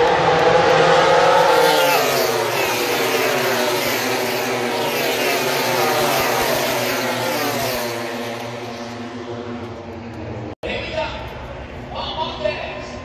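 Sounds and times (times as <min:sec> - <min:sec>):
racing motorcycles passing: 0:00.0 - 0:10.6.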